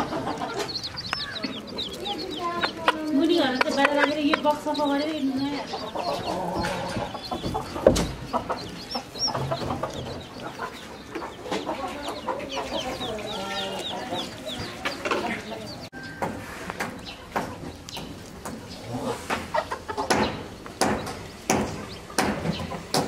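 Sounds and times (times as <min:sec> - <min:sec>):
chicks peeping: 0:00.0 - 0:23.0
hen clucking: 0:00.0 - 0:23.0.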